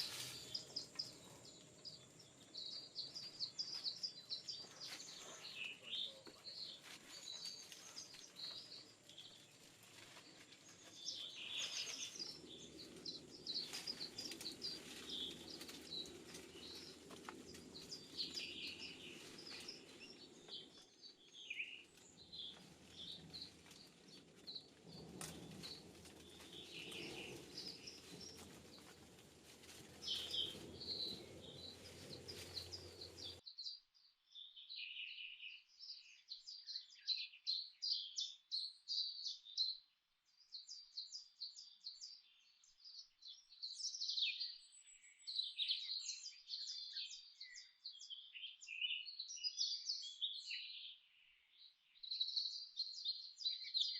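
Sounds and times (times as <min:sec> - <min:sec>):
forest birds chirping: 0:00.0 - 0:53.9.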